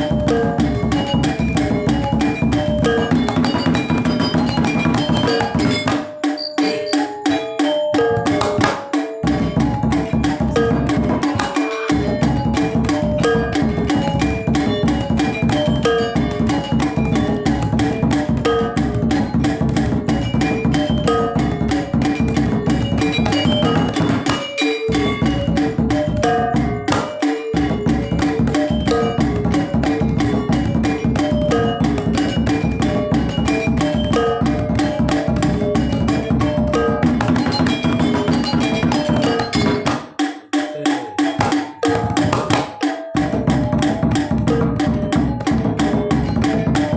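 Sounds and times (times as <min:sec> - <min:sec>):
hand drums: 0:00.0 - 0:46.9
metallophone notes: 0:00.0 - 0:46.9.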